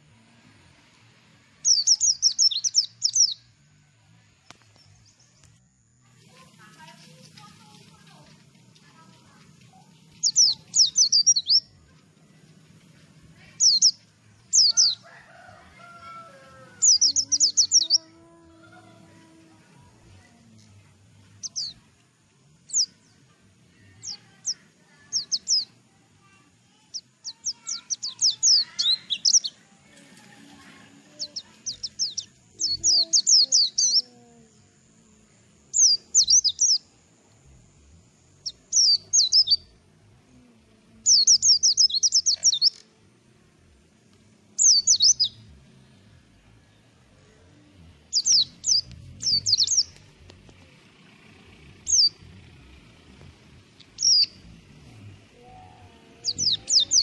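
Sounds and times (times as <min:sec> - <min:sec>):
bird chirping: 0:01.6 - 0:03.6, 0:04.2 - 0:34.6, 0:35.3 - 0:37.4, 0:38.0 - 0:39.8, 0:41.0 - 0:43.0, 0:44.6 - 0:50.8, 0:51.5 - 0:57.0.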